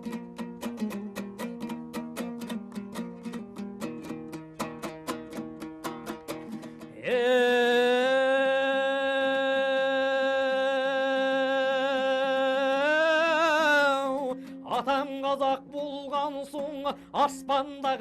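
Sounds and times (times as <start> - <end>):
plucked-string accompaniment: 0.0 - 18.0.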